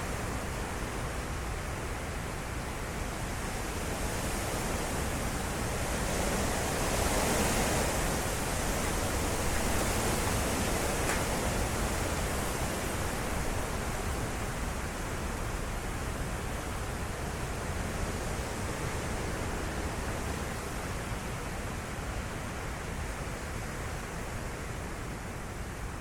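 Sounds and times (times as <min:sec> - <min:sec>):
strong wind gusts: 0:00.0 - 0:26.0.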